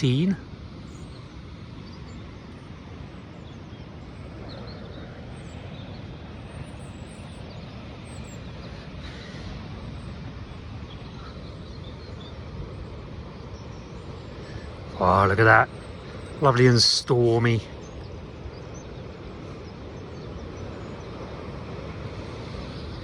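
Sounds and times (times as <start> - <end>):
wind rumbling across microphone: 0.0 - 23.0.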